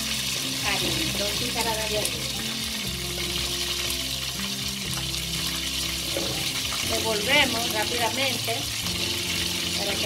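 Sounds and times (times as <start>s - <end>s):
background music with low notes: 0.0s - 10.0s
flour sizzling in hot oil: 0.0s - 10.0s.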